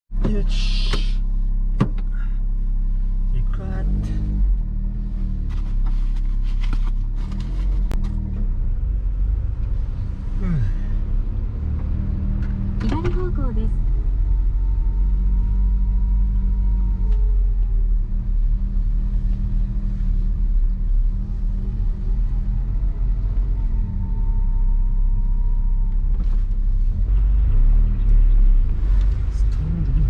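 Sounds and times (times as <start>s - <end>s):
car engine droning: 0.1s - 30.0s
road noise: 0.1s - 30.0s.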